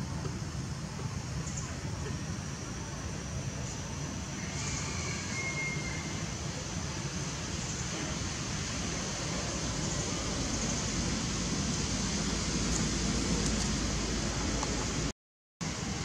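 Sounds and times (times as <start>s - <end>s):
rushing hiss: 0.0s - 16.0s.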